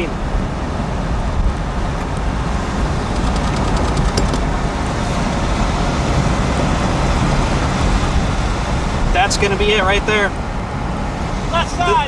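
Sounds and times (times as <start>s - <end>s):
tyre and engine rumble: 0.0s - 11.5s.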